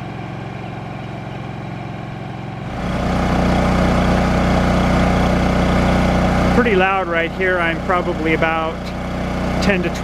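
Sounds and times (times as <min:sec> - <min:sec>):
generator engine hum: 0:00.0 - 0:10.0.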